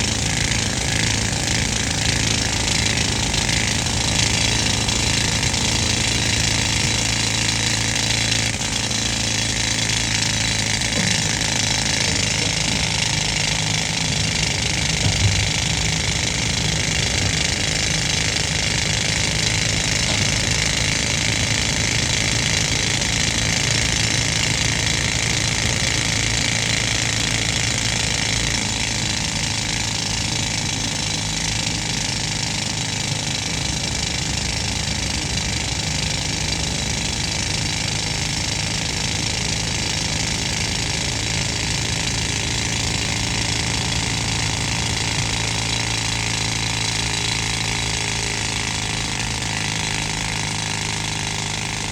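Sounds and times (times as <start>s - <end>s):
air compressor engine hum: 0.0s - 51.9s
pneumatic rock drill hammering: 0.0s - 51.9s.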